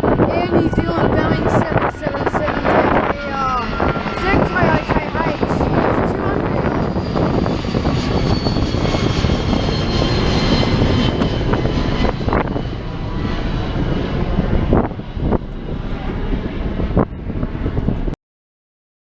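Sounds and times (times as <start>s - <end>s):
jet airliner passing: 0.0s - 18.2s
jet engine whine: 0.0s - 18.2s.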